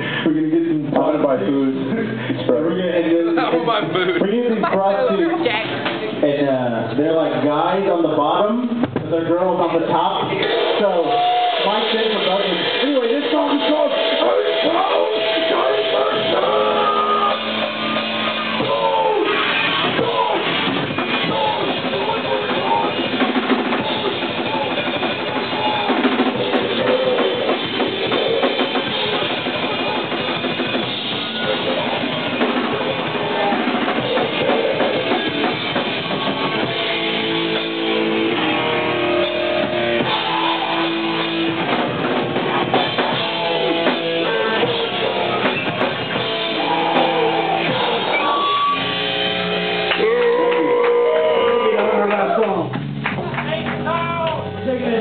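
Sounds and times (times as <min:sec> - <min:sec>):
bass guitar: 0:00.0 - 0:55.0
drum kit: 0:00.0 - 0:55.0
electric guitar: 0:09.9 - 0:55.0.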